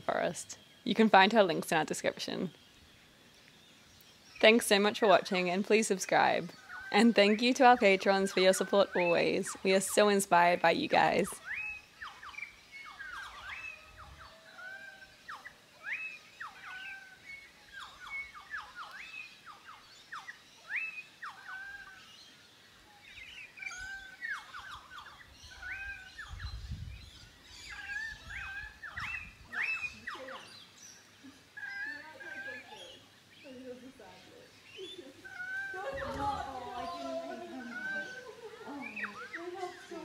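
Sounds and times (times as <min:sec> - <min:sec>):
birds whistling and chirping: 0:00.0 - 0:40.0.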